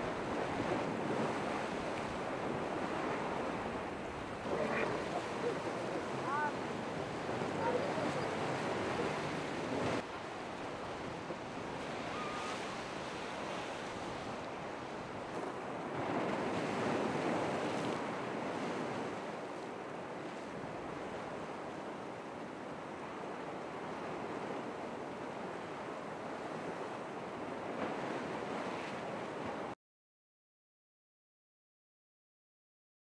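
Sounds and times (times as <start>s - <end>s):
ocean waves breaking: 0.0s - 29.8s.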